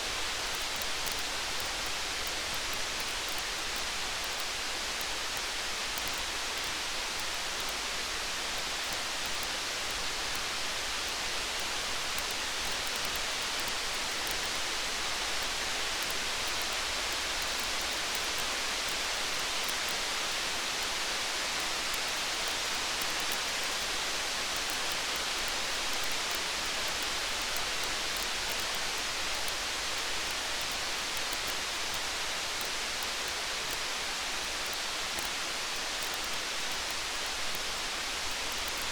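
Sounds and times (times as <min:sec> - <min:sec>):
faint campfire crackles: 0:00.0 - 0:38.9
steady rain hiss: 0:00.0 - 0:38.9.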